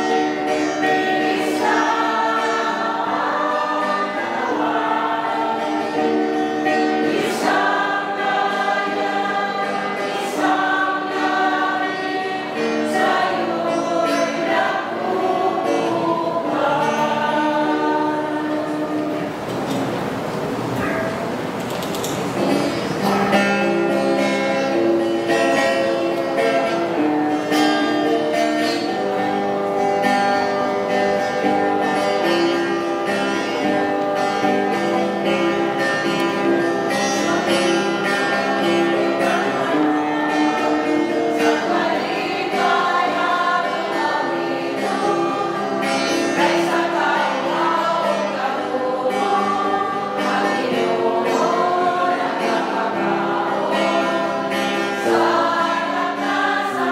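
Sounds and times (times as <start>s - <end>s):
church choir singing: 0.0s - 56.9s
plucked guitar accompaniment: 0.0s - 56.9s.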